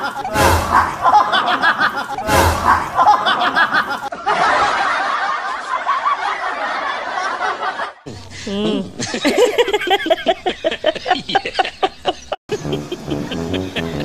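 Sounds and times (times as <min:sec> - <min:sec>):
laughter sound effect: 0:00.0 - 0:14.0.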